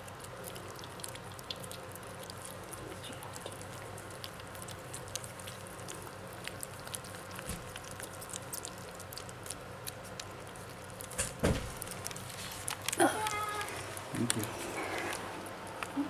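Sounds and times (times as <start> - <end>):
faint steady hum: 0.0 - 16.0
kittens lapping and chewing: 0.0 - 16.0
rustle: 0.0 - 16.0.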